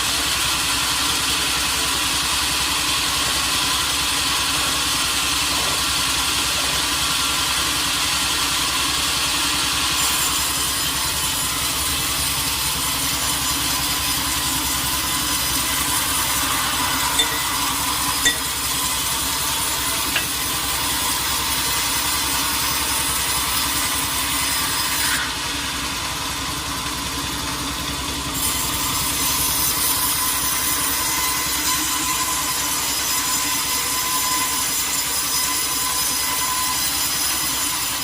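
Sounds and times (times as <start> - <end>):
saw cutting log: 0.0 - 38.0.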